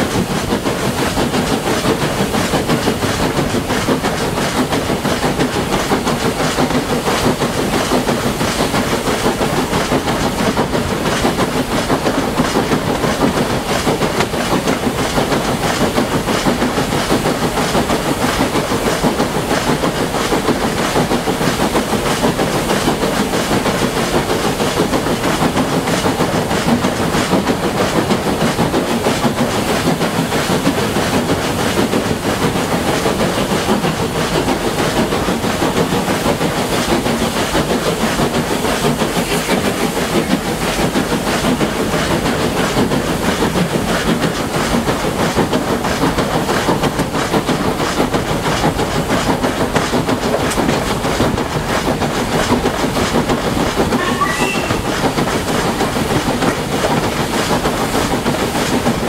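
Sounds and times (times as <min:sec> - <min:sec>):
steam locomotive working steam: 0:00.0 - 0:59.0
wheels clattering on rails: 0:00.0 - 0:59.0.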